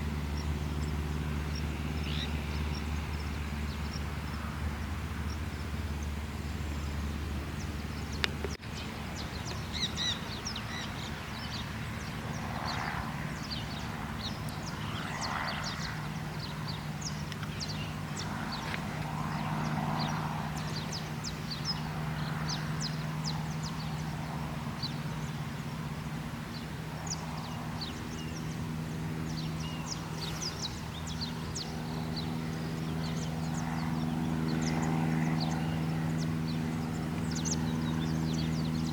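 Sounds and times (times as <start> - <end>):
birds chirping: 0.0 - 38.9
light aircraft engine droning: 0.0 - 38.9.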